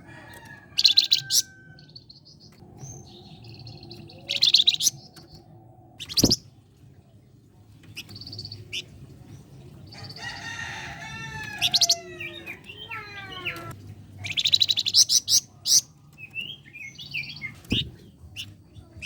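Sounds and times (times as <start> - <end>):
songbird singing: 0.1 - 6.7, 7.8 - 19.0.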